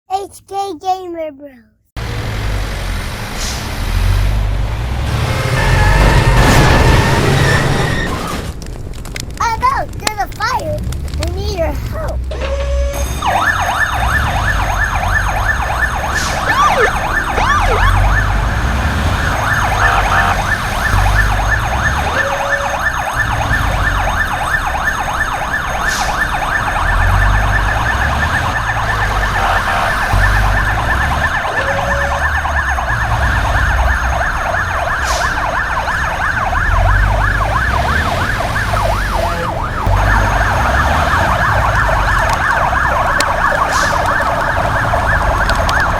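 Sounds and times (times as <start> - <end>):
fire engine siren yelping: 3.3 - 8.5, 12.3 - 45.9.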